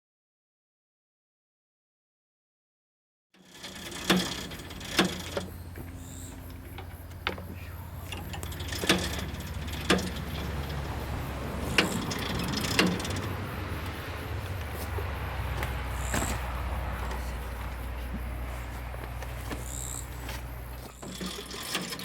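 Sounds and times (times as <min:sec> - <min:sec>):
machine humming: 0:03.6 - 0:22.0.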